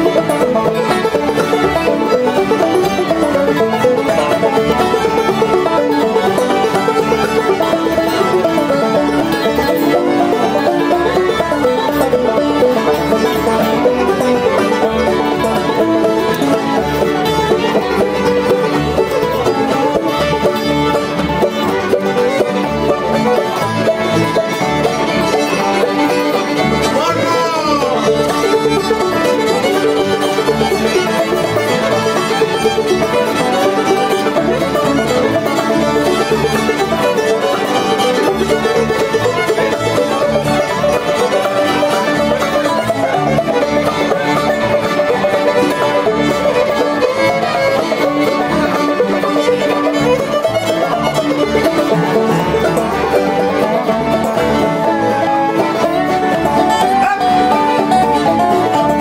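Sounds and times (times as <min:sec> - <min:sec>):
banjo: 0:00.0 - 0:59.0
fiddle melody: 0:00.0 - 0:59.0
mandolin: 0:00.0 - 0:59.0
resonator guitar: 0:00.0 - 0:59.0.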